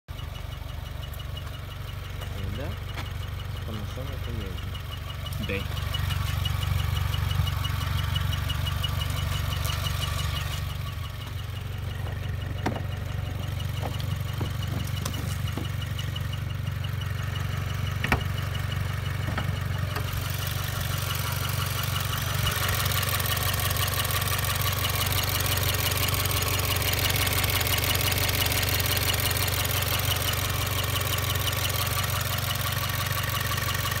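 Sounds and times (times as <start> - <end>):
car engine idling: 0.1 - 34.0.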